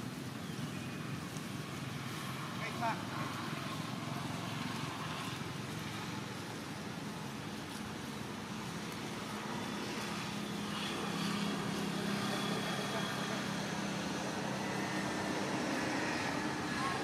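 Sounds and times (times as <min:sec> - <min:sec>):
low engine hum: 0:00.0 - 0:17.0
outdoor noise: 0:00.0 - 0:17.0.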